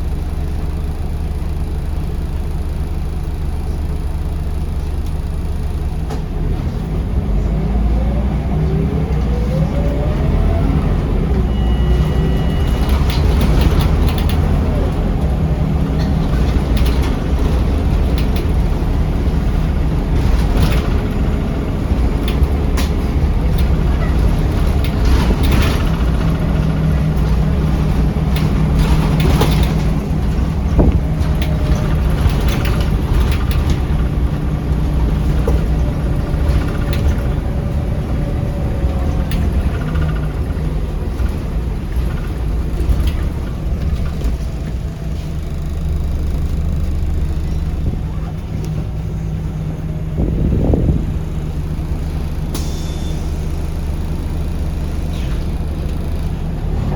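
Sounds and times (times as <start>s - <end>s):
bus engine running: 0.0s - 56.9s
road noise: 0.0s - 56.9s.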